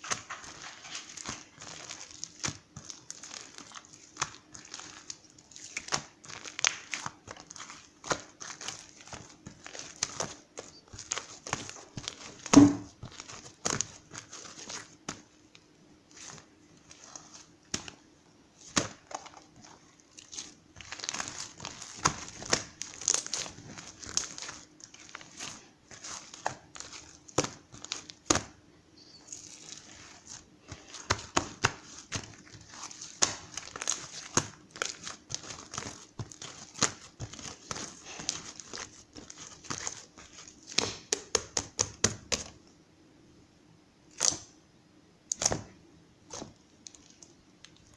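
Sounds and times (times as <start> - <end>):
crinkling and rustling: 0.0 - 42.6, 45.3 - 47.9
faint steady hum: 0.0 - 47.9.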